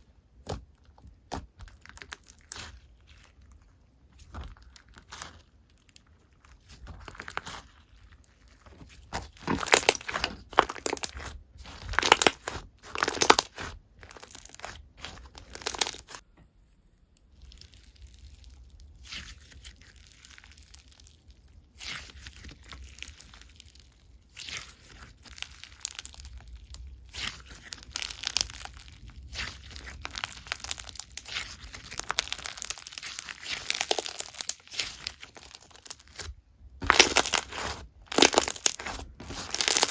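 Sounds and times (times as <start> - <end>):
slime squished by hand: 0.0 - 16.2, 17.3 - 39.9.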